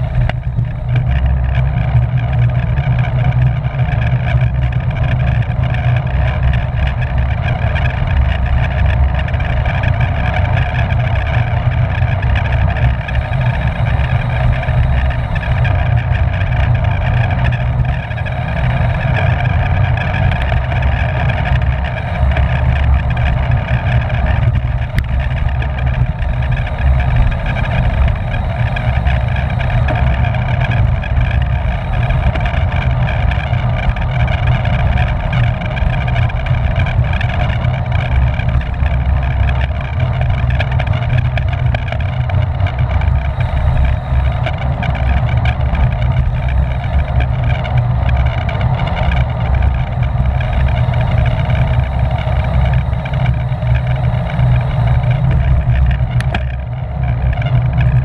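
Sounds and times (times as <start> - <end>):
bicycle whir: 0.0 - 58.0
wind buffeting microphone: 0.0 - 58.0.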